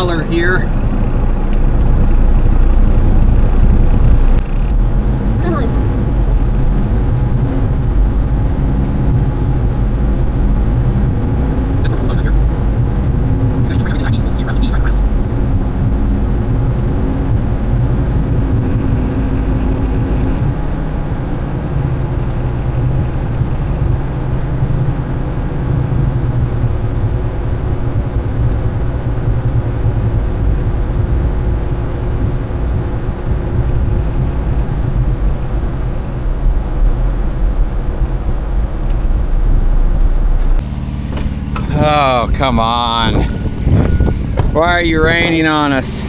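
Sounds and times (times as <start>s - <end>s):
diesel truck engine rumbling: 0.0s - 46.0s.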